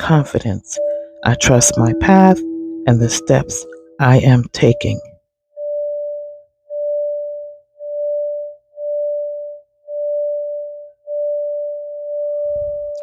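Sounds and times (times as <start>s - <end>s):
pulsing meditation tone: 0.0s - 13.0s.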